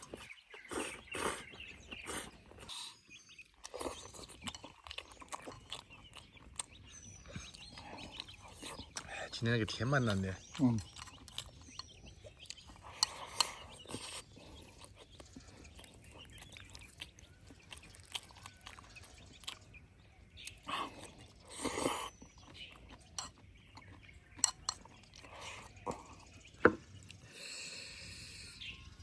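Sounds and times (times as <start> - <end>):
people chewing: 0.0 - 28.8.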